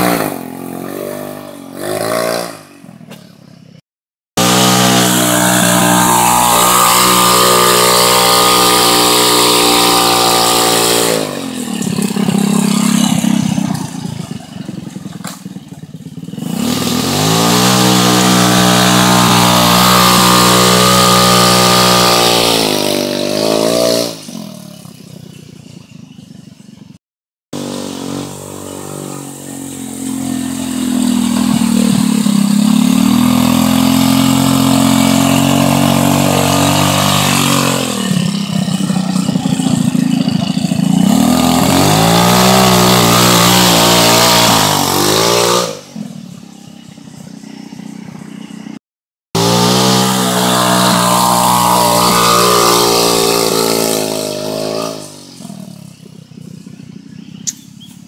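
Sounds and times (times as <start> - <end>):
go-kart engine revving: 0.0 - 3.3, 4.4 - 25.4, 27.6 - 48.8, 49.4 - 57.6.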